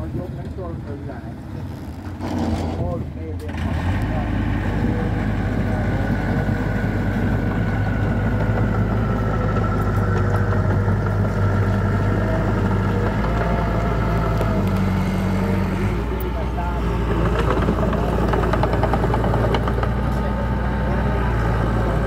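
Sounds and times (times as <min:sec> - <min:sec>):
bulldozer diesel engine: 0:00.0 - 0:22.0.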